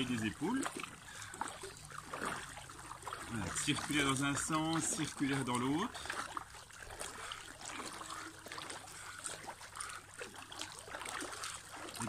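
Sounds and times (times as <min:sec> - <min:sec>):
pool water sloshing and splashing: 0:00.0 - 0:12.0.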